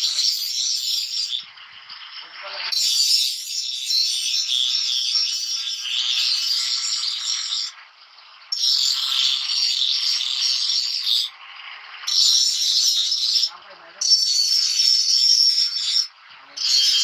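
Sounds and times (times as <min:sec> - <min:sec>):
angle grinder grinding steel: 0:00.0 - 0:01.5, 0:02.1 - 0:07.8, 0:08.5 - 0:11.4, 0:12.0 - 0:17.0.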